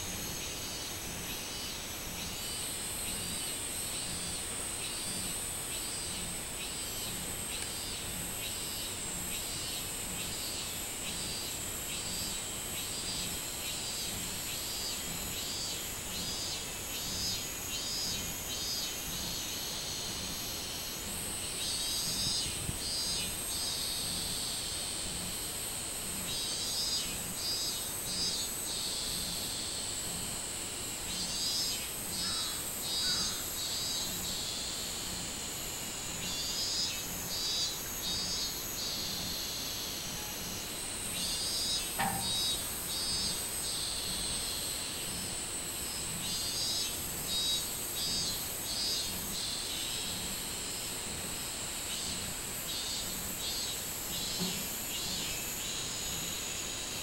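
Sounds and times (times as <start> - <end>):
cicadas singing: 0.0 - 57.0.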